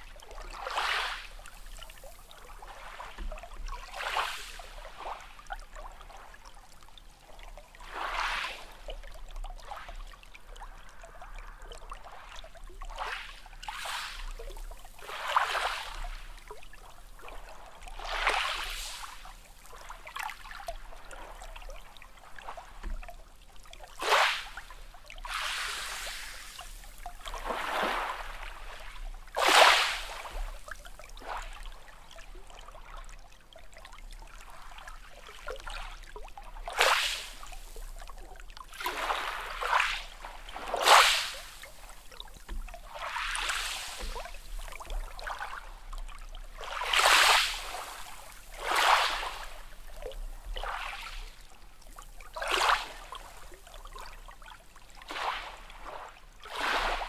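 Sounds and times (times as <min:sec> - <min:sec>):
small sea waves splashing: 0:00.0 - 0:57.0.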